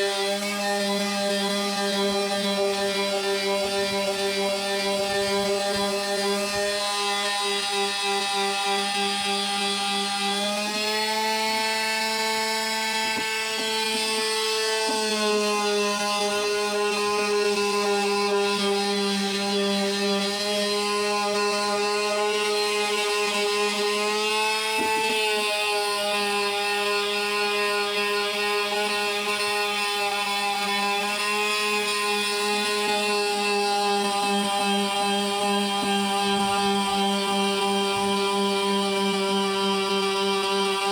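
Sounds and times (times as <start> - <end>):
electric sander on painted wood: 0.0 - 40.9.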